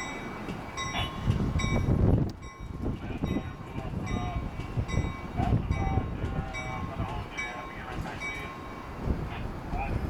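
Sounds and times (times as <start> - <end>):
bell-like ringing: 0.0 - 8.9.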